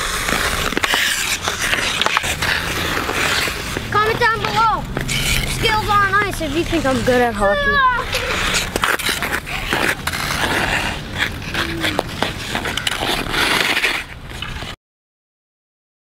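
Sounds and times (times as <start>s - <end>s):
ice skates scraping ice: 0.0s - 14.8s.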